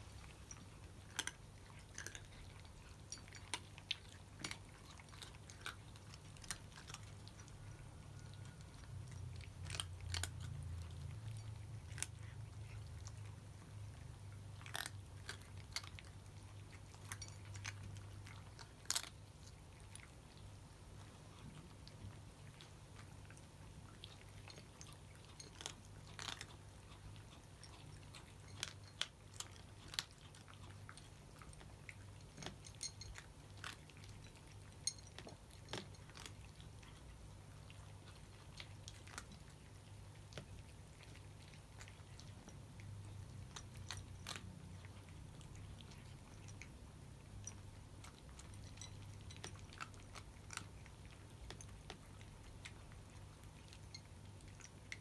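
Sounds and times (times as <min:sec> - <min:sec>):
cats crunching dry kibble: 0:00.0 - 0:55.0.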